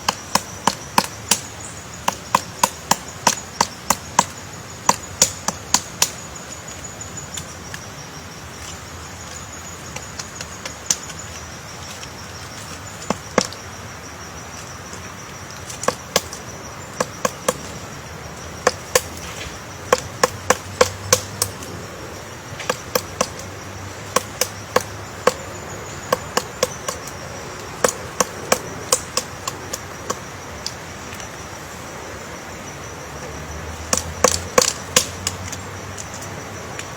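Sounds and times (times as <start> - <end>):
woodpecker pecking wood: 0.0 - 7.9, 8.6 - 13.8, 14.6 - 31.3, 33.7 - 36.9
high insect trill: 0.0 - 36.9.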